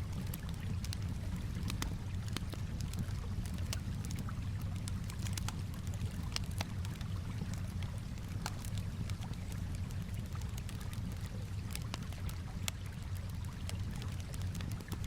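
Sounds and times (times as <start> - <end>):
calm water washing: 0.0 - 15.0
campfire crackling and popping: 0.0 - 15.0.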